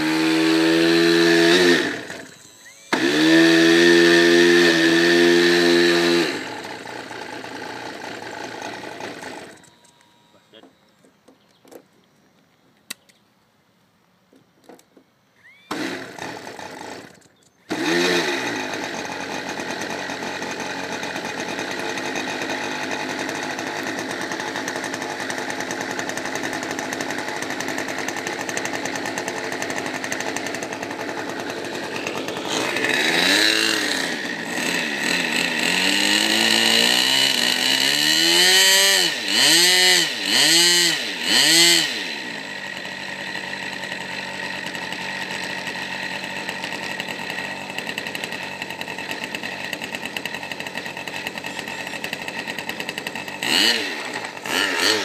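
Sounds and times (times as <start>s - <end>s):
model plane engine idling and revving: 0.0s - 10.7s, 15.4s - 55.0s.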